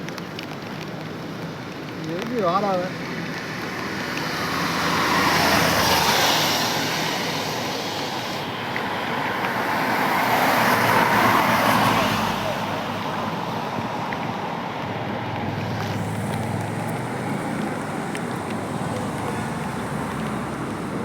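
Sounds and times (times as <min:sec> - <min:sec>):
tyres hissing through water: 0:02.0 - 0:14.5, 0:15.4 - 0:21.0.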